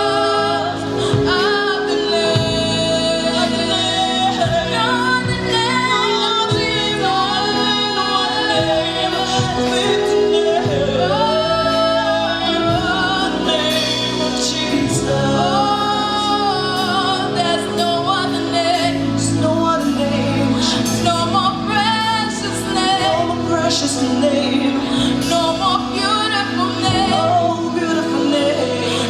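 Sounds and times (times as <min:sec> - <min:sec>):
women singing gospel song: 0:00.0 - 0:29.0.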